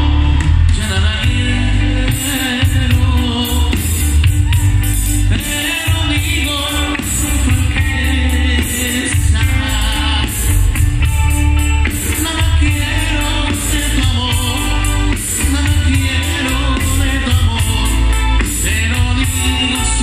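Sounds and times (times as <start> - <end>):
band playing live: 0.0 - 20.0
person singing lead vocal: 0.0 - 20.0.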